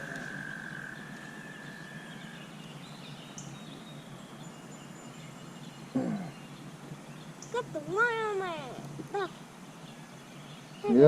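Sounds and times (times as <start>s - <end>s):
faint background hiss: 0.0s - 11.0s
faint bird chirps: 0.0s - 11.0s.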